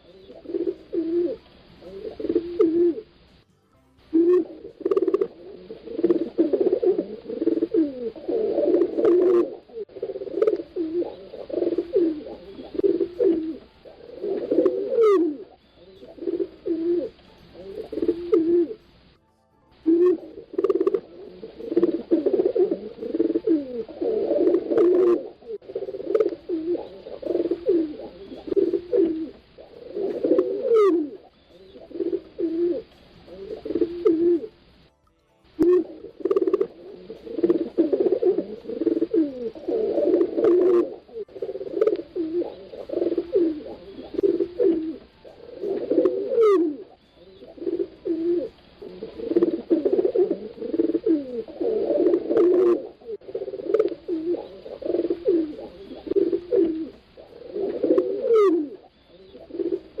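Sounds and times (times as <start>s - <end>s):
pigeons cooing: 0.0s - 3.4s, 4.1s - 19.0s, 19.8s - 34.8s, 35.6s - 60.0s.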